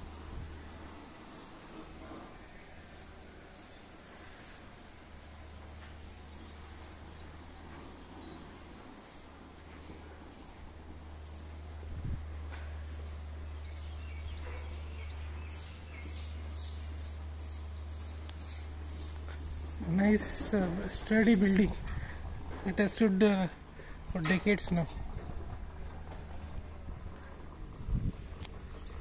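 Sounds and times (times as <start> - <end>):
low steady hum: 0.0 - 29.0
small birds chirping: 0.0 - 29.0.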